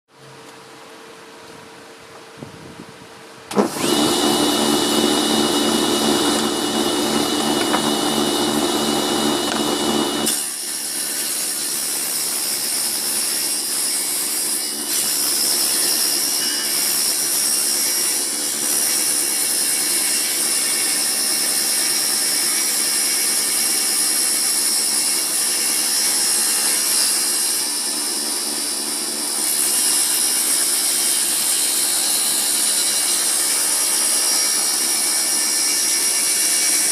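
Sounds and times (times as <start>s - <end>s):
saw blade ripping wood: 3.5s - 36.9s
table saw motor whining: 3.5s - 36.9s.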